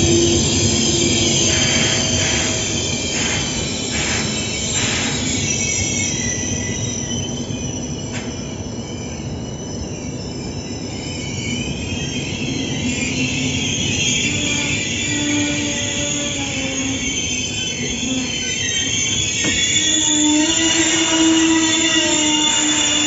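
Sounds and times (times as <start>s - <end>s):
train rumble: 0.0s - 23.0s
train wheels squealing: 0.0s - 23.0s.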